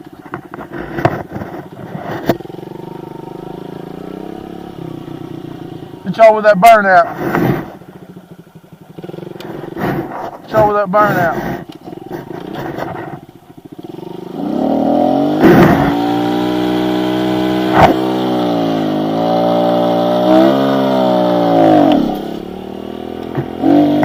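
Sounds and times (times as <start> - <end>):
motorcycle engine revving hard: 0.7 - 24.0.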